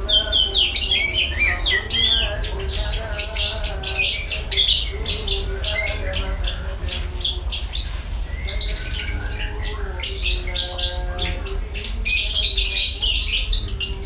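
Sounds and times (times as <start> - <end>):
bird singing high chirps and trills: 0.0 - 14.0.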